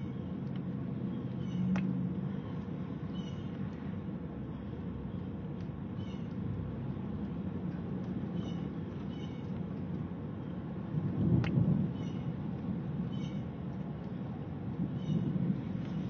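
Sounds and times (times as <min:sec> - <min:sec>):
low storm rumble: 0:00.0 - 0:16.0.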